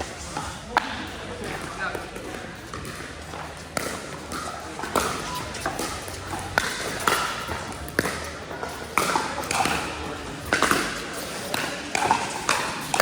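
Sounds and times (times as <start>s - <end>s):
paddles hitting plastic ball: 0.8s - 13.0s.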